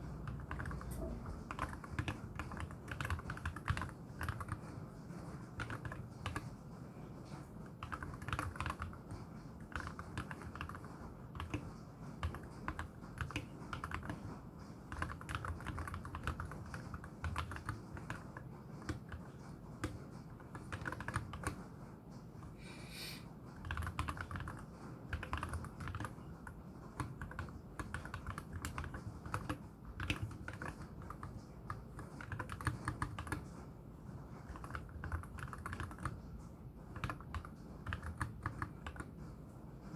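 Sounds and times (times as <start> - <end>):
deep keyboard typing clacks: 0.1 - 6.6, 7.7 - 21.7, 23.6 - 33.6, 34.2 - 39.9.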